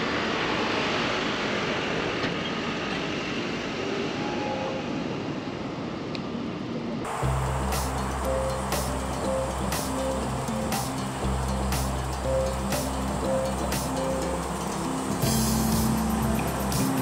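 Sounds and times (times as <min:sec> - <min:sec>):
passing vehicle roar: 0:00.0 - 0:17.0.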